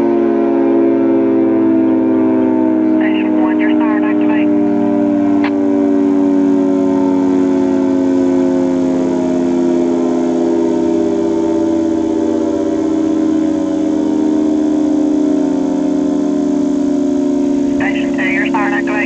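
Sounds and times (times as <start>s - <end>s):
three-tone warning siren: 0.0s - 19.0s.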